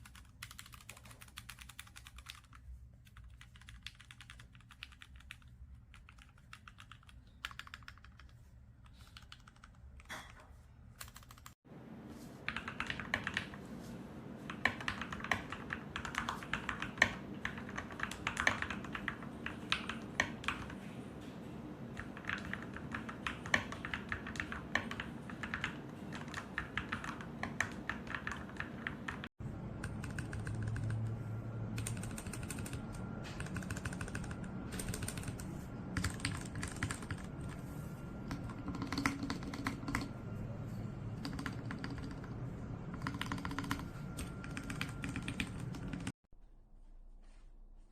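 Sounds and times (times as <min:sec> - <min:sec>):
mechanical keyboard typing: 0:00.0 - 0:08.3, 0:08.9 - 0:10.2, 0:11.0 - 0:11.6, 0:12.5 - 0:13.6, 0:14.5 - 0:20.8, 0:22.0 - 0:37.6, 0:38.2 - 0:40.1, 0:41.2 - 0:46.1.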